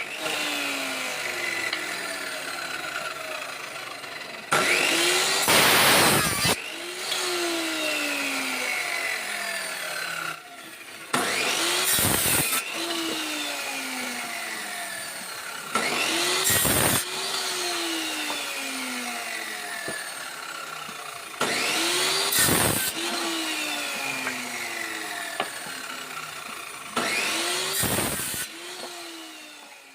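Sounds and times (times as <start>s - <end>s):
electric saw whining: 0.0s - 29.9s
saw cutting wood: 0.0s - 29.9s.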